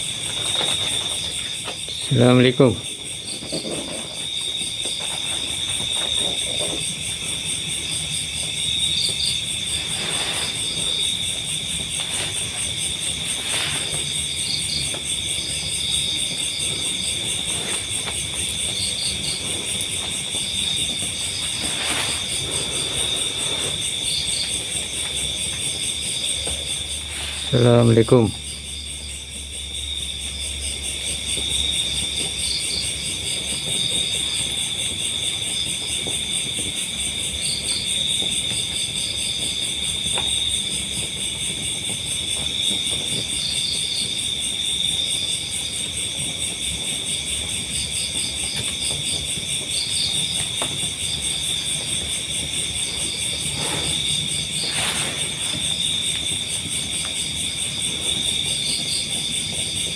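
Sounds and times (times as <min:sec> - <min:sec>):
crickets trilling: 0:00.0 - 0:59.9
insect chirps: 0:00.0 - 0:59.9.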